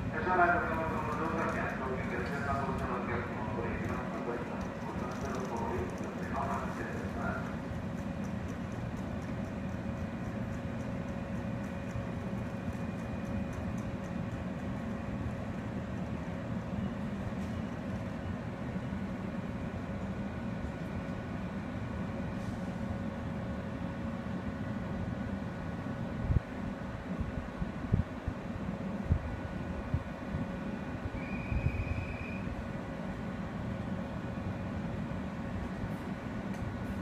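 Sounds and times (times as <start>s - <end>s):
electric train equipment humming: 0.0s - 37.0s.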